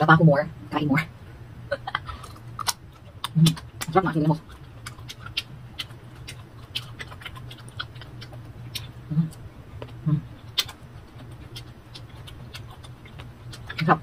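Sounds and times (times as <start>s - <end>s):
closed-mouth hums: 1.6s - 14.0s
crunchy chewing: 2.0s - 14.0s.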